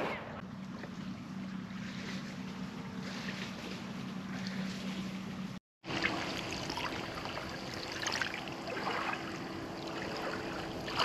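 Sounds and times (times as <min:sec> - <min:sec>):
faint steady hum: 0:00.0 - 0:11.0
waves lapping against shore: 0:01.5 - 0:11.0.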